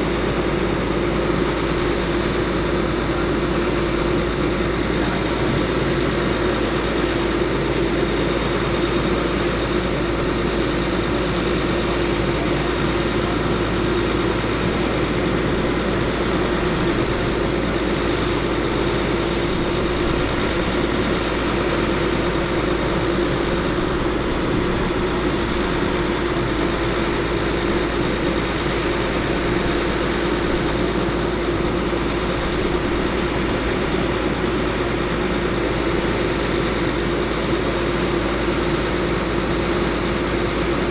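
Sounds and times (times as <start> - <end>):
constant whining tone: 0.0 - 40.9
diesel truck engine running: 0.0 - 40.9.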